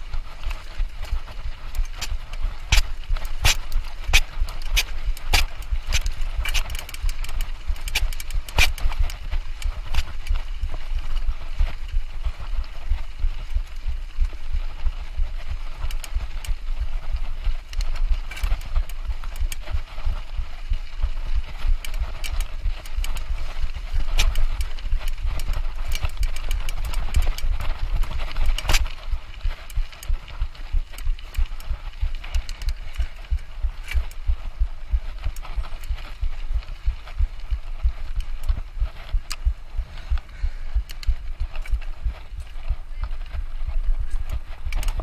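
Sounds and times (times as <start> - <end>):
bike rumbling over rough trail: 0.0 - 45.0.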